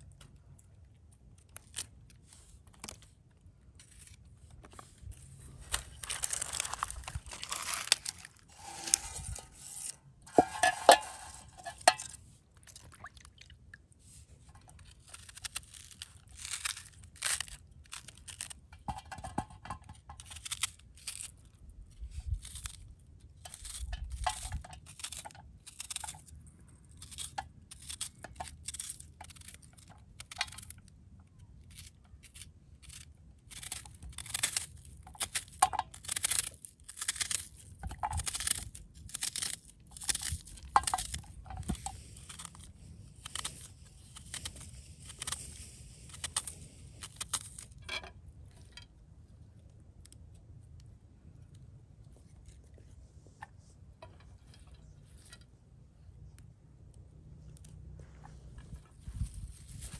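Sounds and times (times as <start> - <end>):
onion skins crackling and tearing: 0.0 - 13.4, 14.6 - 50.9, 58.7 - 59.9.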